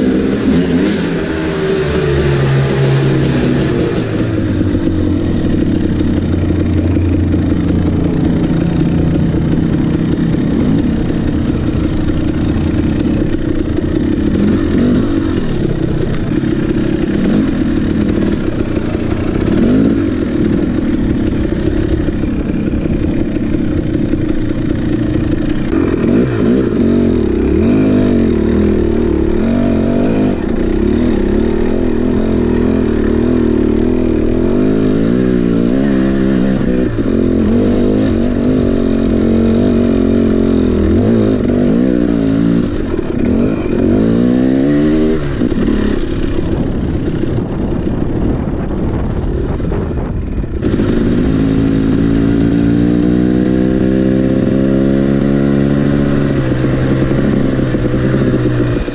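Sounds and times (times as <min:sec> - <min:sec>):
dirt bike engine revving: 0:00.0 - 0:49.0, 0:50.3 - 0:58.9.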